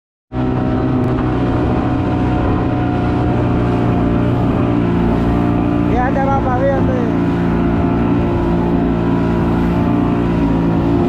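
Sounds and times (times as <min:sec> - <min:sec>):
boat motor running: 0:00.3 - 0:11.0.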